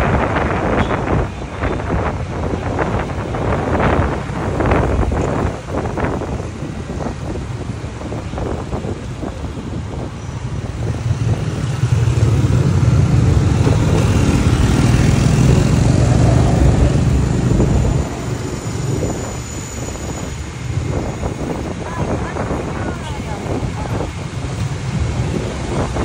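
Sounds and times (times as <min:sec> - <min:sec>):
road noise: 0:00.0 - 0:26.0
vehicle engine: 0:00.0 - 0:26.0.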